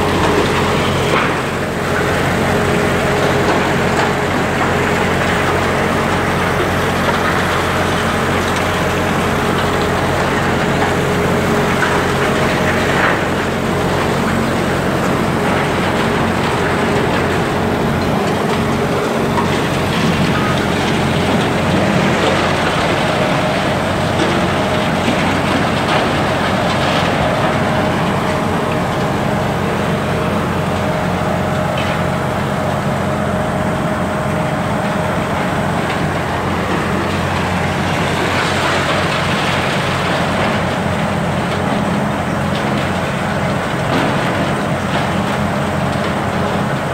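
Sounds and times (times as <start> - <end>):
diesel excavator engine running: 0.0 - 46.9.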